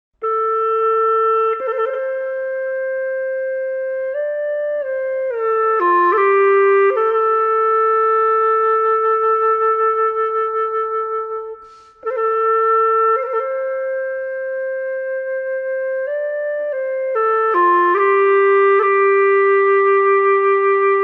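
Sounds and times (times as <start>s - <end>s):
solo wind instrument melody: 0.2s - 21.0s.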